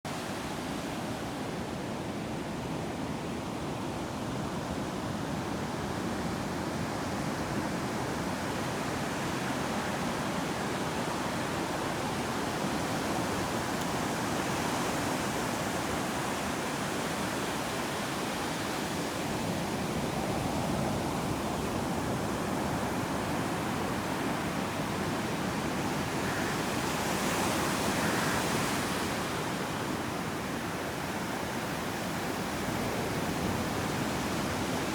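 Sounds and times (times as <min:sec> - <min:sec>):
ocean surf on beach: 0:00.1 - 0:34.9.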